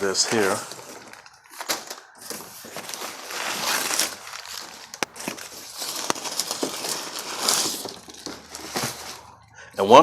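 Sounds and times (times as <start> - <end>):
rustling handling noise: 0.0 - 10.0.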